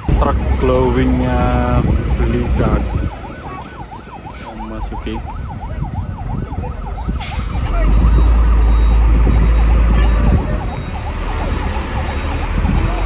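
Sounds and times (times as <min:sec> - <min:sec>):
deep rumble: 0:00.0 - 0:13.0
siren yelping: 0:00.0 - 0:13.0
vehicle noise: 0:00.0 - 0:13.0.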